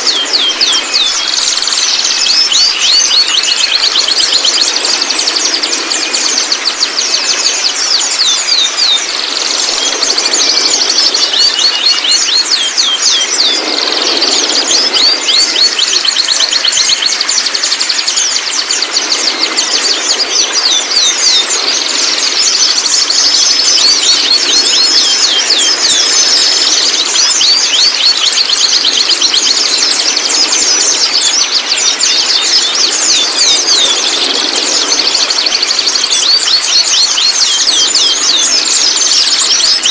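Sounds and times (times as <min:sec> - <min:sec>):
young birds chattering: 0:00.0 - 0:39.9.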